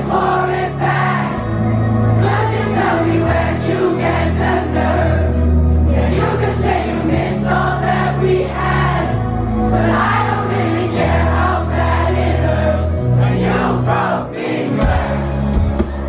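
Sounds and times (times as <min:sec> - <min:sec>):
live amplified band: 0:00.0 - 0:16.0.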